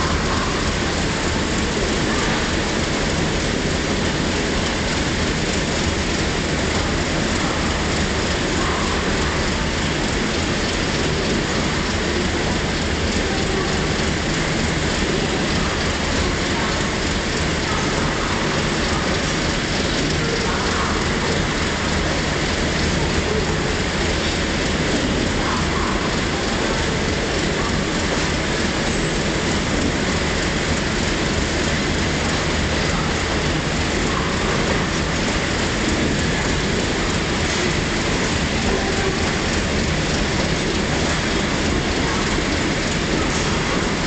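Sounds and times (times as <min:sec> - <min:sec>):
train wheels running on rails: 0:00.0 - 0:44.0.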